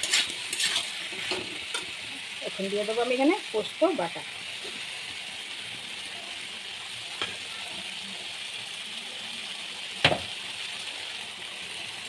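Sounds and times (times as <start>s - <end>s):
vegetables frying in oil: 0.0s - 12.0s.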